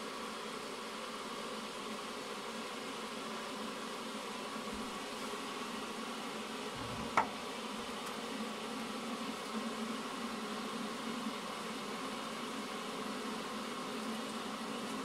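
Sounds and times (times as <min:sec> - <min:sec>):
buzzing hum with faint hiss: 0:00.0 - 0:15.0.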